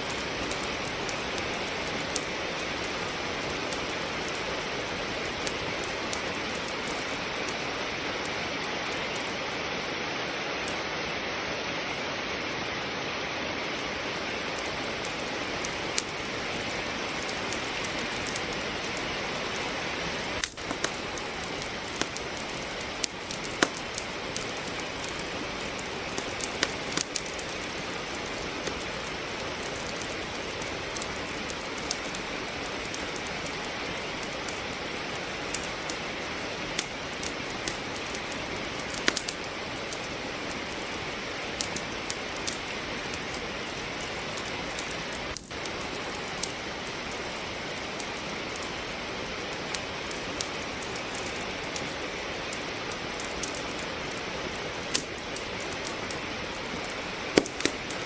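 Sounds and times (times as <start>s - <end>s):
logs crackling in fireplace: 0.0s - 58.0s
rain falling: 0.0s - 58.0s.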